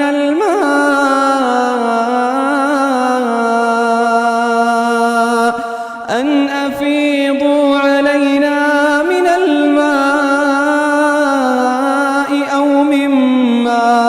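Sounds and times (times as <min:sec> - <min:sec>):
person chanting melodically: 0:00.0 - 0:14.0.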